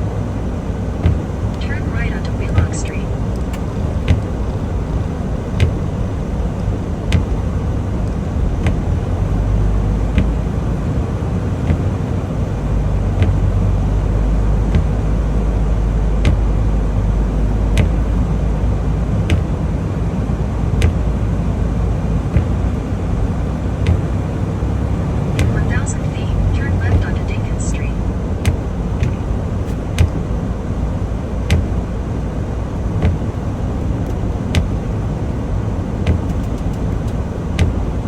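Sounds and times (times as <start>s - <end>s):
road noise: 0.0s - 38.0s
truck engine rumble: 0.0s - 38.0s.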